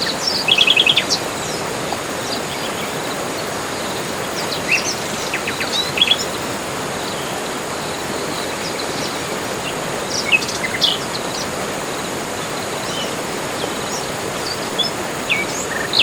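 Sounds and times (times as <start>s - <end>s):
background hiss: 0.0s - 16.0s
birds chirping: 0.0s - 16.0s.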